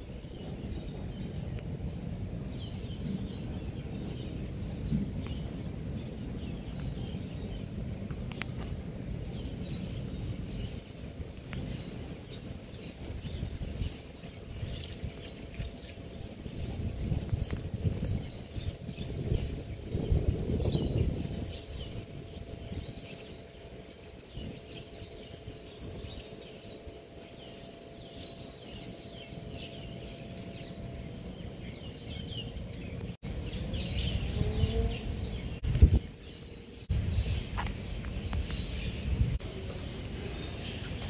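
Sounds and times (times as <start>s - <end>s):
low rumble: 0.0s - 41.0s
small birds chirping: 0.0s - 41.0s.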